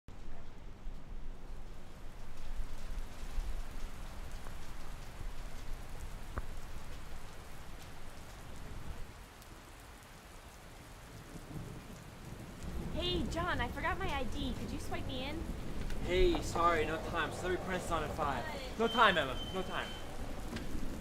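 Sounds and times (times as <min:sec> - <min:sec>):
steady rain falling: 0:00.1 - 0:21.0.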